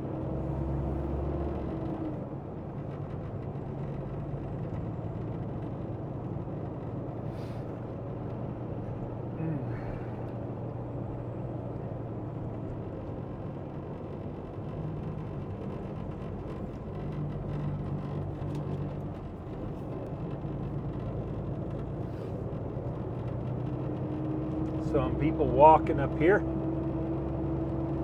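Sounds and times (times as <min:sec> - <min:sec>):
diesel truck engine running: 0:00.0 - 0:28.0
road noise: 0:00.0 - 0:28.0.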